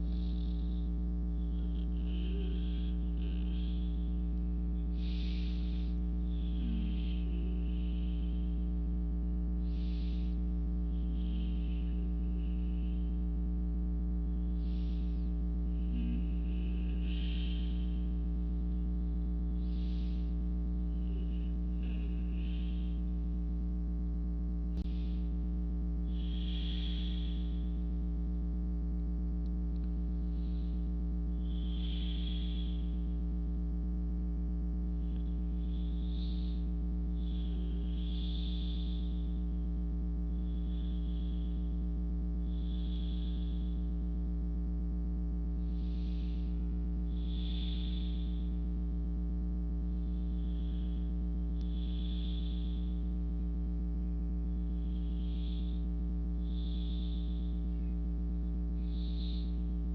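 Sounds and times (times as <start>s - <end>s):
soft human breathing: 0.0s - 59.9s
steady low hum: 0.0s - 59.9s.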